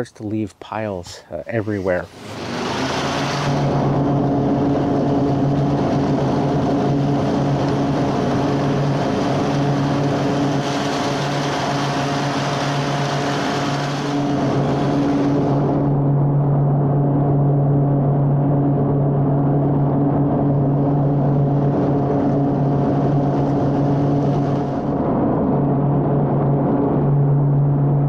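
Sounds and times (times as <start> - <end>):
lawn mower engine drone: 2.0 - 28.0.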